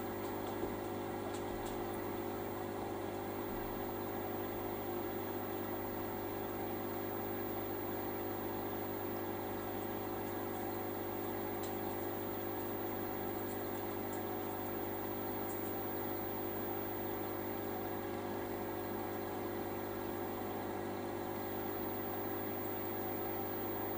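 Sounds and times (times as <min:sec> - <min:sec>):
aquarium pump humming: 0:00.0 - 0:23.9.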